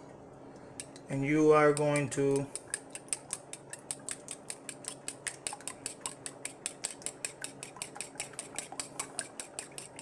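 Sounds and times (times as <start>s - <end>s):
fork beating eggs in a bowl: 0.8s - 10.0s.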